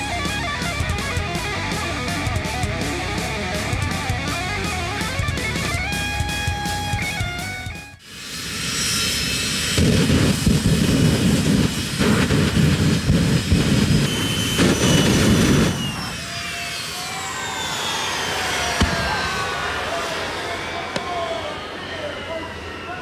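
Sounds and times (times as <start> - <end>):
jet turbine engine roaring: 0.0 - 23.0.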